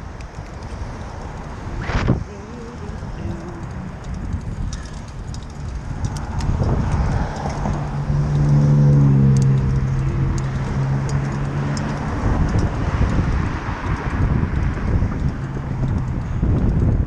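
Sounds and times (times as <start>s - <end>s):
light rattling clicks: 0.0s - 17.0s
road and wind rumble: 0.0s - 17.0s
vehicle engine humming: 0.0s - 17.0s.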